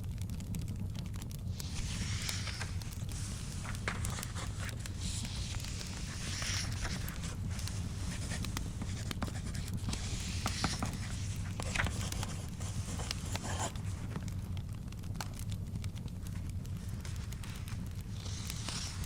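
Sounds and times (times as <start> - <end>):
fire crackling and popping: 0.0 - 19.0
scratching on paper: 1.5 - 14.4, 16.3 - 19.0.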